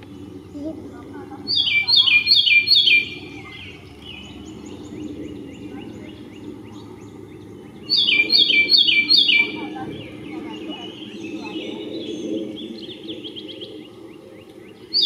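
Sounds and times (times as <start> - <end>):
faint birdsong: 0.0 - 15.0
wren singing: 0.0 - 15.0.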